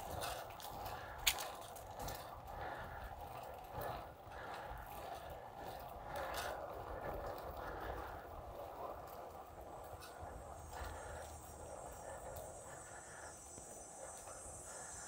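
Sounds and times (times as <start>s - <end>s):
bicycle tyre noise: 0.0s - 15.0s
bike drivetrain ticking and rattling: 0.0s - 15.0s.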